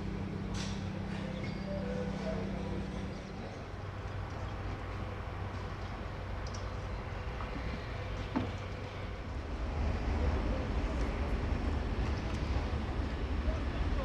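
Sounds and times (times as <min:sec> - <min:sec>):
railway station background noise: 0:00.0 - 0:14.0.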